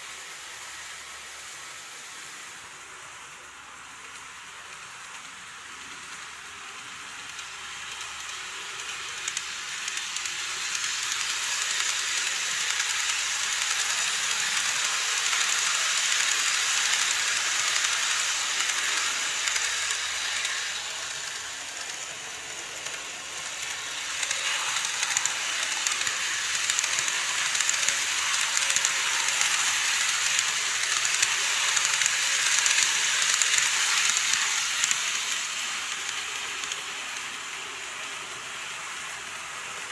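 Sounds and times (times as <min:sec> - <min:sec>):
model train wheels and motor whirring: 0:00.0 - 0:39.9.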